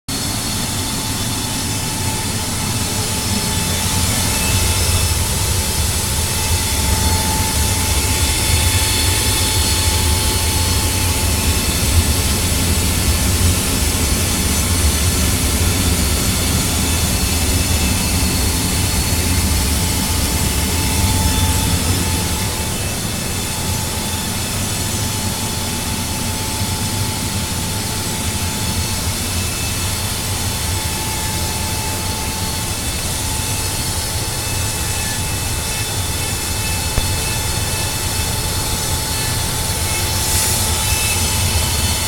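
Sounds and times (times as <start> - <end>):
furnace rumbling and hissing: 0.1 - 42.0.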